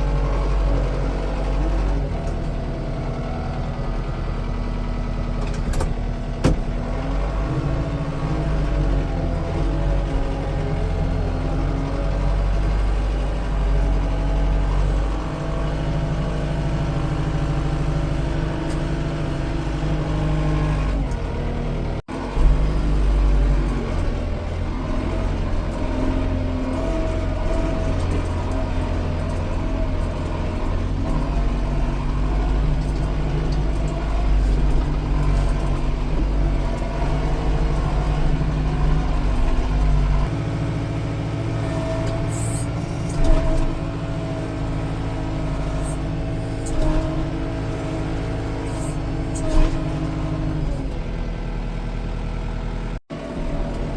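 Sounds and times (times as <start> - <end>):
engine rumbling: 0.0 - 53.9.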